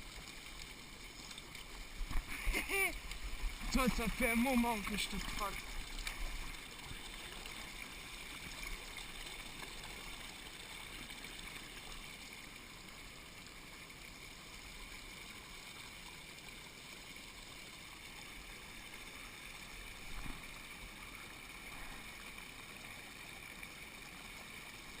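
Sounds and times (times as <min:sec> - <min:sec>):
rushing mountain stream: 0:00.0 - 0:25.0.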